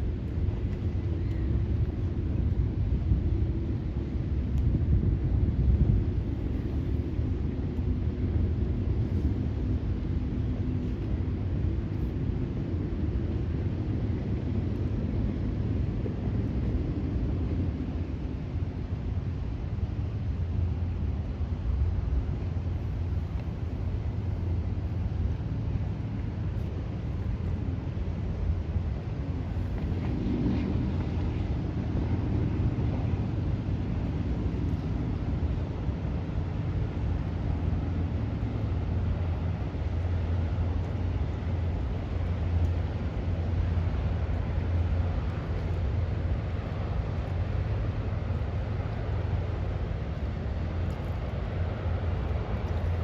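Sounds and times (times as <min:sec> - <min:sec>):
ship diesel engine drone: 0:05.9 - 0:53.0.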